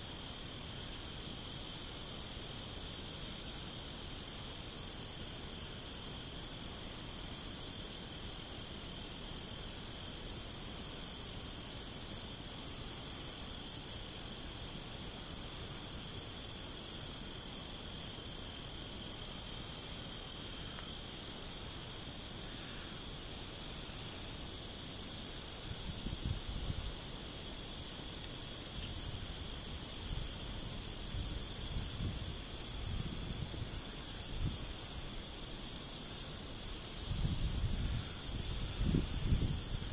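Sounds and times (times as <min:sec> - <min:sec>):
insects singing: 0:00.0 - 0:39.9.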